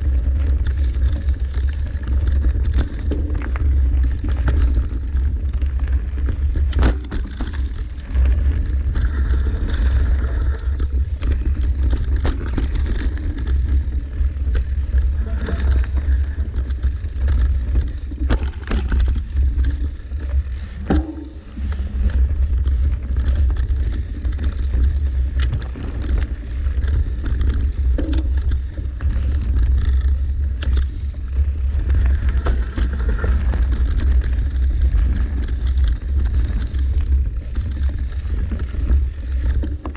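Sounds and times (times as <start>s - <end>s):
bike rattling over bumps: 0.0s - 39.9s
tyres on dirt trail: 0.0s - 39.9s
wind rumble on microphone: 0.0s - 39.9s.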